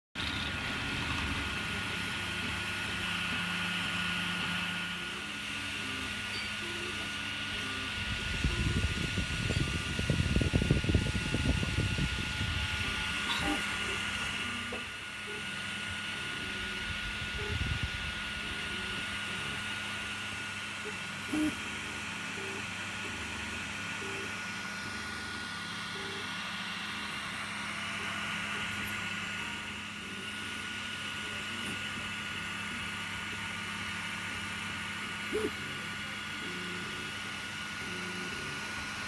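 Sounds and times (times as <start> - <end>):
fan hum: 0.2 - 39.0
stepper motors whining: 0.2 - 39.0.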